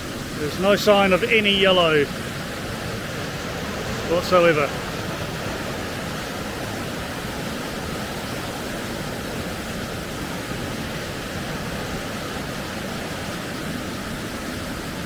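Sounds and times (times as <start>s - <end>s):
river rushing over a ford: 0.0s - 15.0s.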